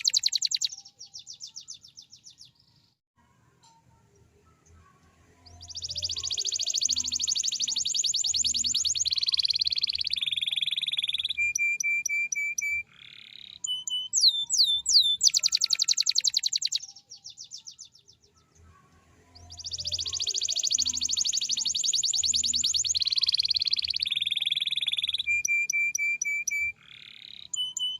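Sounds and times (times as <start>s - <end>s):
canary singing trills: 0.0s - 2.7s, 4.2s - 27.9s.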